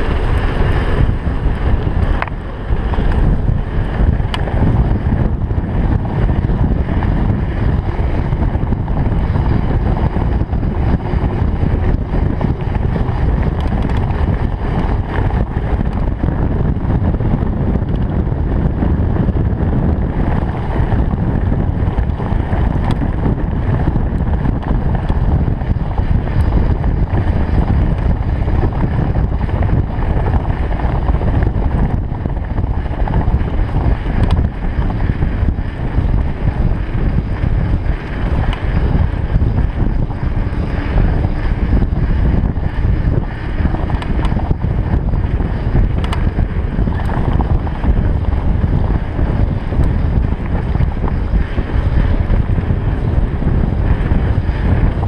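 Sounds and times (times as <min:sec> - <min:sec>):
bike tyres humming on road: 0:00.0 - 0:55.0
wind buffeting microphone: 0:00.0 - 0:55.0.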